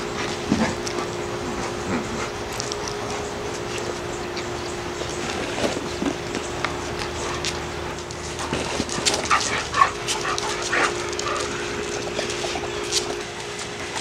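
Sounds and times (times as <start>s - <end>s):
dogs yipping and whimpering: 0.0s - 13.2s
dogs scuffling: 0.0s - 14.0s
steady low hum: 0.0s - 14.0s.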